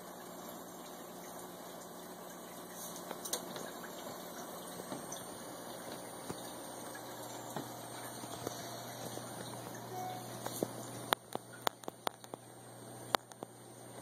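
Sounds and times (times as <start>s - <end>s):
aquarium air bubbling: 0.0s - 14.0s.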